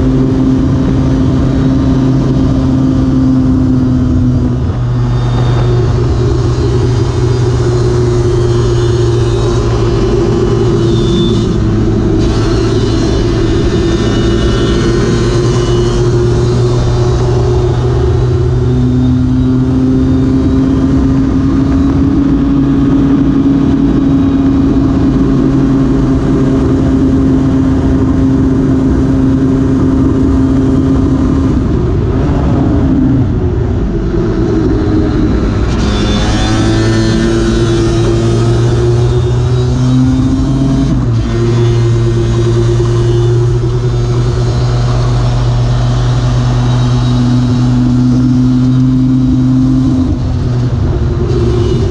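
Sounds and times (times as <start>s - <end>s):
scooter engine revving high: 0.0s - 51.9s
wind rush: 0.0s - 51.9s.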